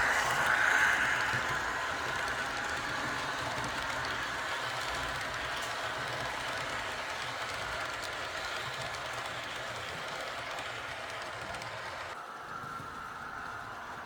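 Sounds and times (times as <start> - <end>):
model train wheels rumbling: 0.0 - 14.0.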